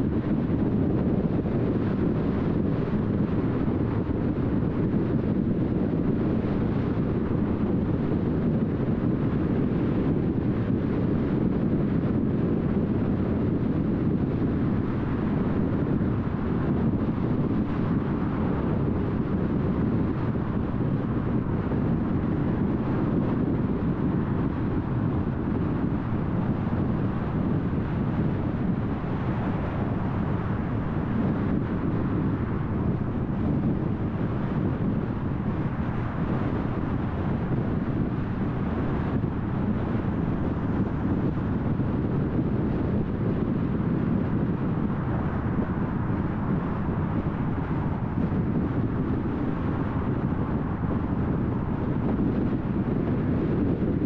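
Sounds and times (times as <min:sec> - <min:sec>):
car tyres rumbling on road: 0:00.0 - 0:54.0.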